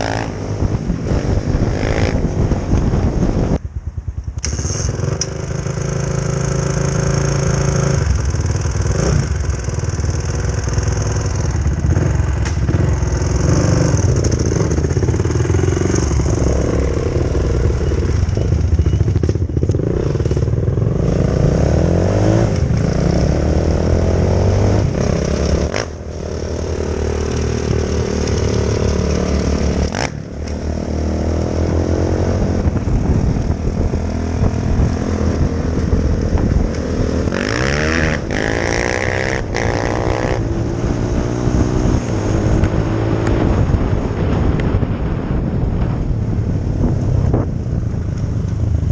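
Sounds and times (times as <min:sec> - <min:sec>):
dirt bike engine revving: 0:00.0 - 0:02.3, 0:04.4 - 0:43.6.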